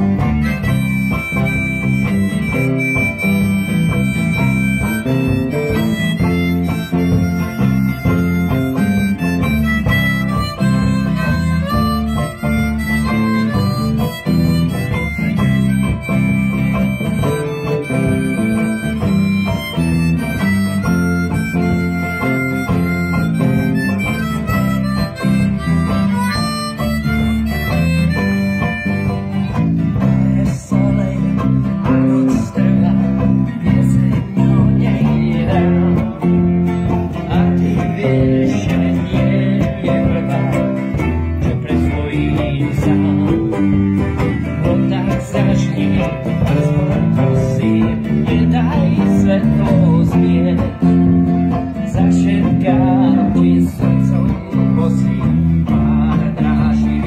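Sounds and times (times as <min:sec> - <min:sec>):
acoustic guitar: 0:00.0 - 0:57.0
banjo: 0:00.0 - 0:57.0
bass guitar: 0:00.0 - 0:57.0
harmonica: 0:00.0 - 0:57.0.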